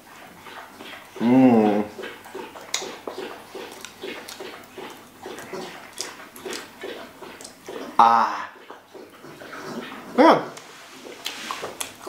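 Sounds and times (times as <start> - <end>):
chewing with wet mouth sounds: 0.0 - 12.0.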